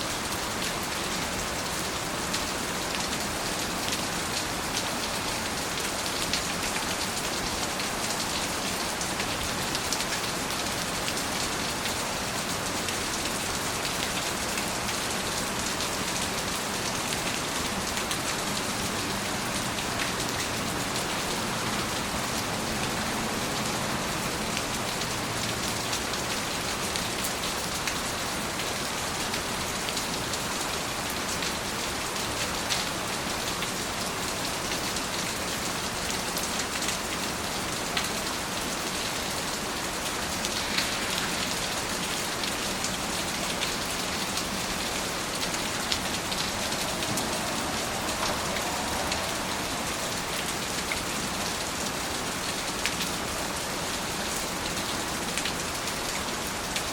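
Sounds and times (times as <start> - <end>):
steady rain: 0.0 - 56.9
raindrops ticking on a surface: 2.1 - 56.9.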